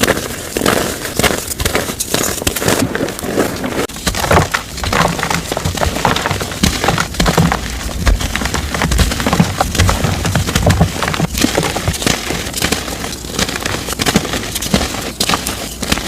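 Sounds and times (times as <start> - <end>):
chalk crunching and crackling: 0.0 - 16.0.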